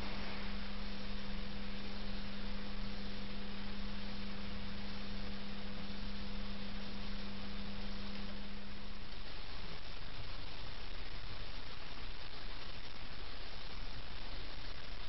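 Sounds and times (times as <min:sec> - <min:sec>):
even hiss: 0:00.0 - 0:15.0
low hum: 0:00.0 - 0:15.0.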